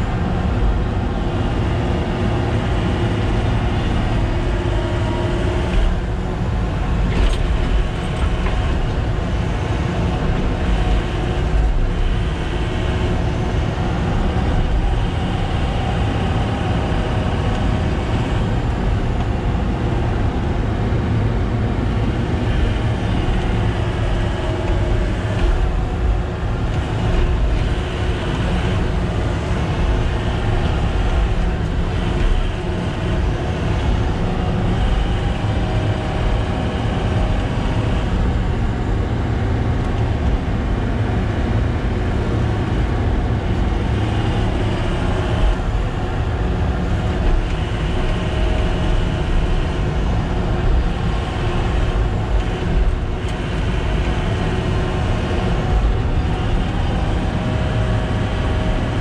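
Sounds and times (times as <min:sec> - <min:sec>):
heavy diesel engine rumbling: 0:00.0 - 0:59.0.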